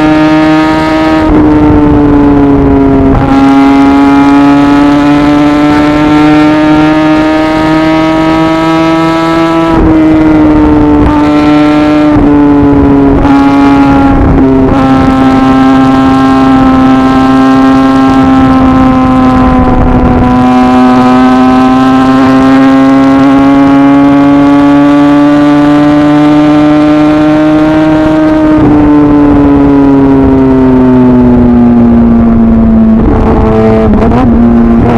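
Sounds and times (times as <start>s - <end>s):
sport bike engine running: 0.0s - 34.9s.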